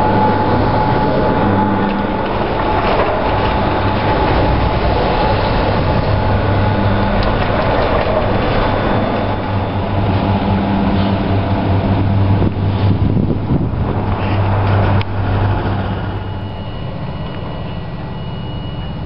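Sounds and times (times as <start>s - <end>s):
gondola lift machinery humming: 0.0s - 19.0s.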